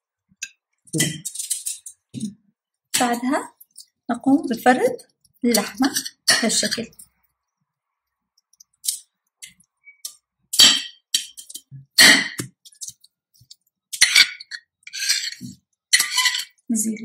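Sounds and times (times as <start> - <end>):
utensils clinking on ceramic plate: 0.4 - 2.4, 3.0 - 7.1, 8.6 - 16.7.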